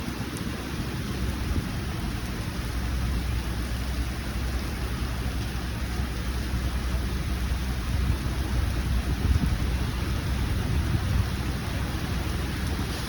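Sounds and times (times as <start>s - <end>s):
heavy rain hissing: 0.0s - 13.0s
deep rumble: 1.1s - 13.0s.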